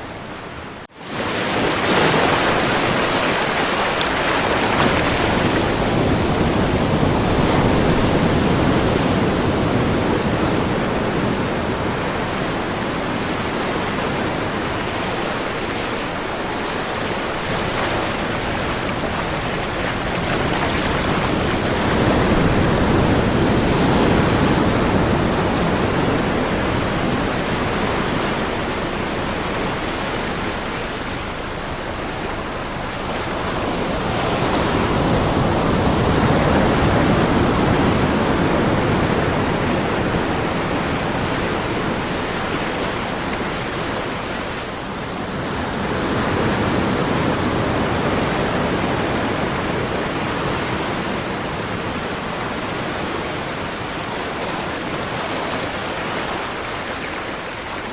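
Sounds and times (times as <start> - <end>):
ocean waves rushing: 0.0 - 57.9.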